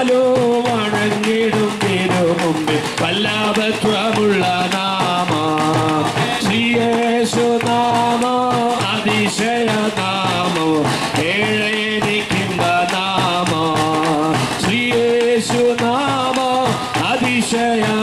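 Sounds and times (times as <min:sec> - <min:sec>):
bass drum: 0:00.0 - 0:18.0
men singing a hymn: 0:00.0 - 0:18.0
snare drum: 0:00.0 - 0:18.0.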